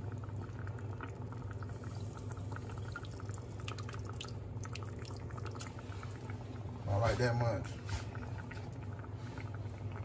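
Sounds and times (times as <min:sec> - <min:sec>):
juice dripping into pot: 0:00.0 - 0:10.0
steady low hum: 0:00.0 - 0:10.0
stew bubbling: 0:00.0 - 0:10.0.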